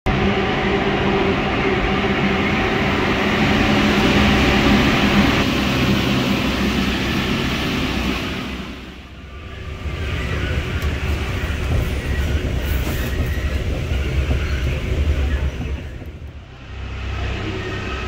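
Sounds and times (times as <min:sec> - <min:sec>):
train rumble and hiss: 0:00.1 - 0:18.0.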